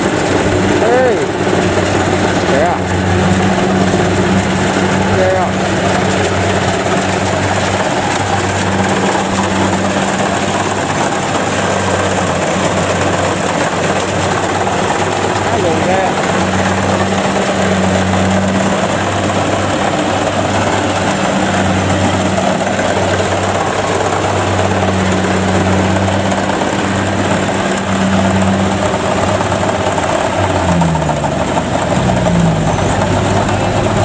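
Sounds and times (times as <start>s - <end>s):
diesel engine running under load: 0.0s - 34.0s
rattle of machinery: 0.0s - 34.0s.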